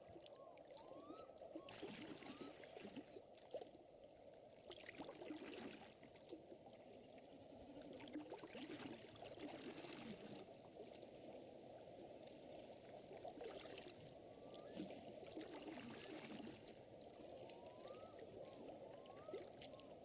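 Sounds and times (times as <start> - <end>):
water lapping and trickling: 0.0 - 20.0.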